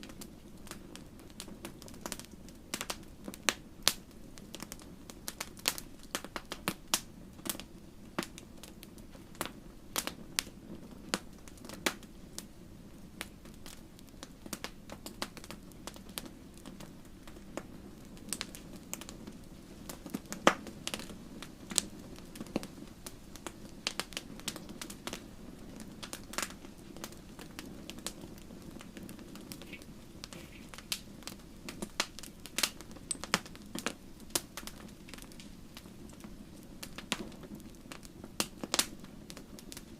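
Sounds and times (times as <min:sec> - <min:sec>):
soft rush of flame: 0:00.0 - 0:39.9
wood fire crackling and popping: 0:00.0 - 0:39.9.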